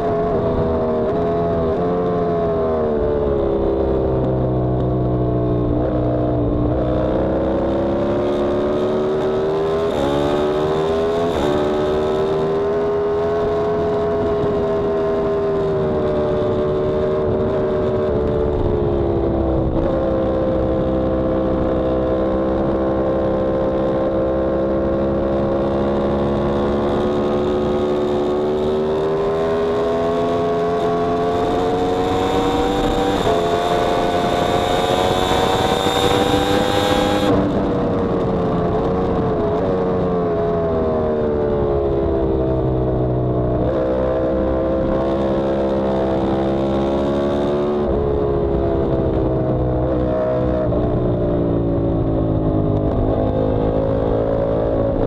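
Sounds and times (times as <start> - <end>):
motorcycle engine revving high: 5.2 - 55.0.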